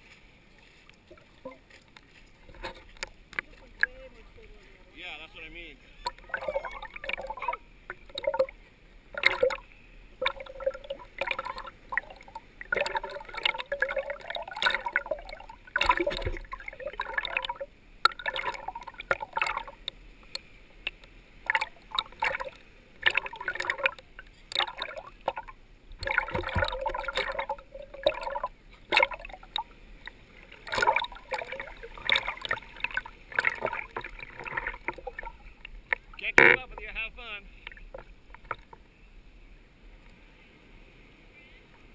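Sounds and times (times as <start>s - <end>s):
small waves sloshing and gurgling: 0.0s - 39.0s.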